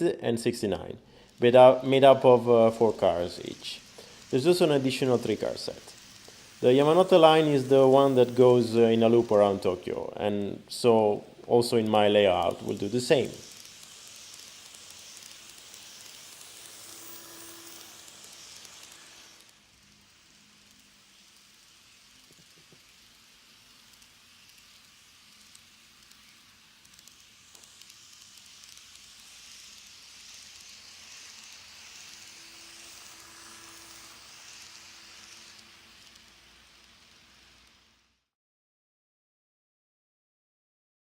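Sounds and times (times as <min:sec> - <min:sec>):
model train running on track: 0:00.7 - 0:38.3.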